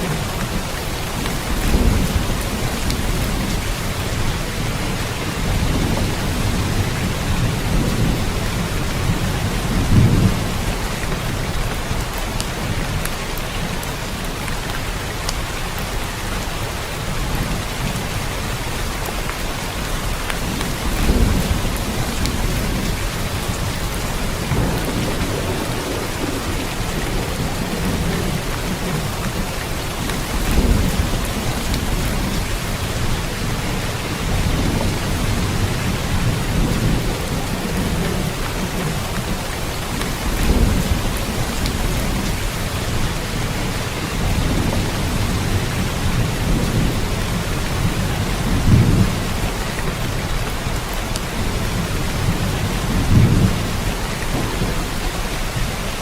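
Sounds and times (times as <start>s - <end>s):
rolling thunder rumbles: 0.0s - 14.7s, 16.8s - 56.0s
heavy rain hiss: 0.0s - 56.0s.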